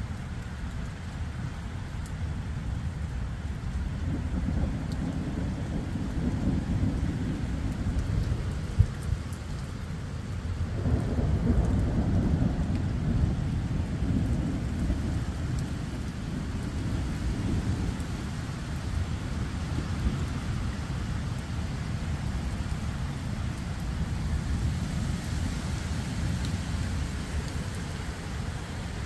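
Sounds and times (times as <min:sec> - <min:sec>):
steady rain: 0:00.0 - 0:29.0
thunder rumbling: 0:04.0 - 0:29.0.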